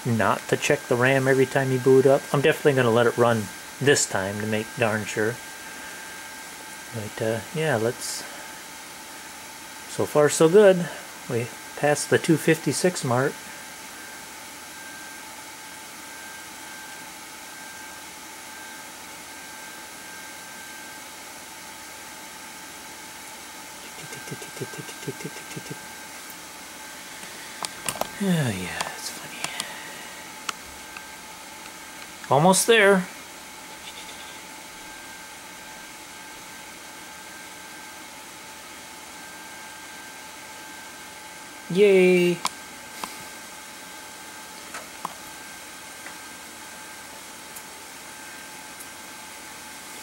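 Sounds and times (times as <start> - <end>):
computer cooling fans whirring: 0.0 - 50.0
faint high whine: 0.0 - 50.0.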